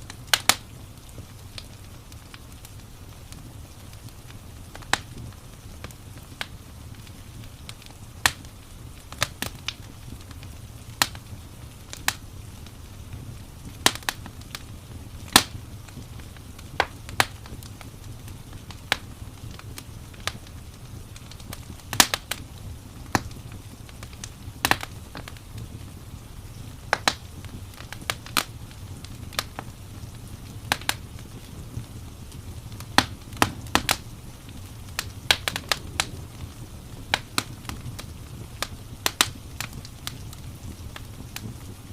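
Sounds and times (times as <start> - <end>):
fire crackling and popping: 0.0 - 41.9
low fire rumble: 0.0 - 41.9.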